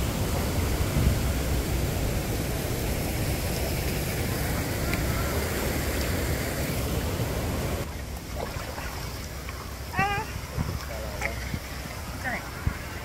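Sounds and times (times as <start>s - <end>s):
churning water rushing: 0.0s - 13.0s.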